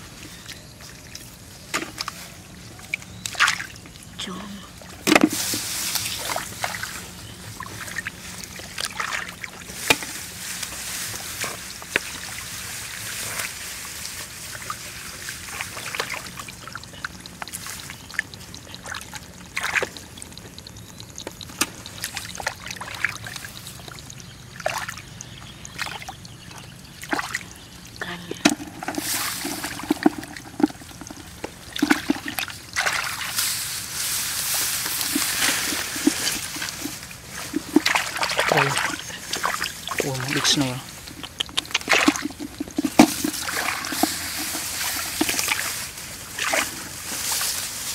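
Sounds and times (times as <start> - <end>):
shallow water trickling: 0.0 - 47.9
small splashes and clicks: 0.3 - 4.2, 7.6 - 33.6, 34.6 - 47.6.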